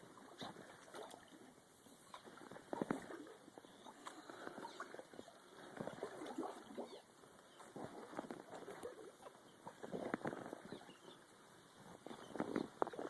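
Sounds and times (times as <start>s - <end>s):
small birds twittering: 0.3s - 13.0s.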